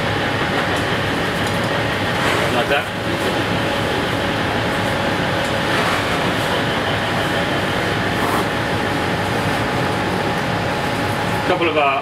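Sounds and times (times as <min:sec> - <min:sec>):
ventilation fans rushing: 0:00.0 - 0:12.0.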